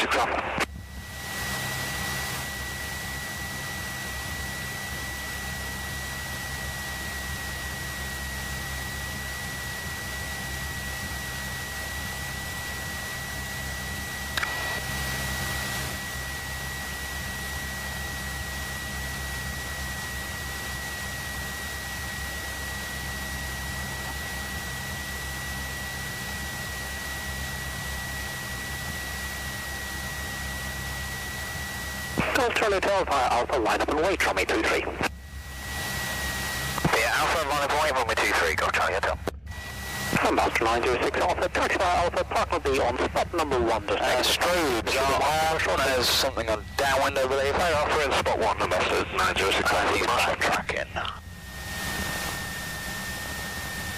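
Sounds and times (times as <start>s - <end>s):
thin steady whine: 0.0s - 53.9s
airplane engine idling: 0.2s - 53.9s.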